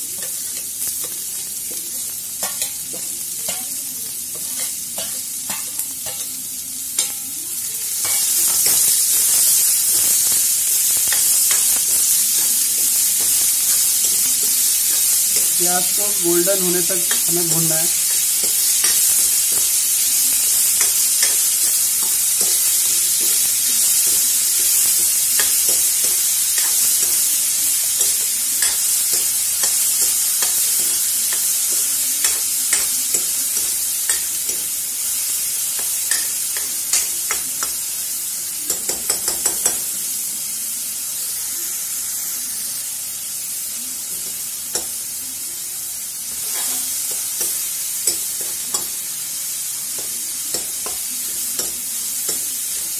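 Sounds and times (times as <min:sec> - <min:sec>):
onions sizzling in oil: 0:00.0 - 0:52.9.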